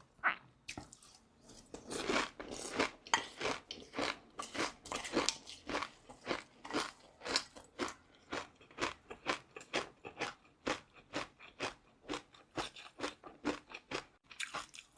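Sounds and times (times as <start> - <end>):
chewing crunchy food: 0.7 - 14.9.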